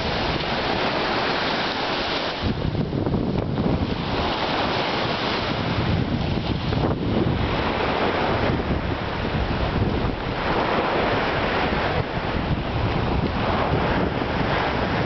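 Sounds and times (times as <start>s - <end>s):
small waves washing on beach: 0.0s - 15.0s
wind buffeting microphone: 0.0s - 15.0s.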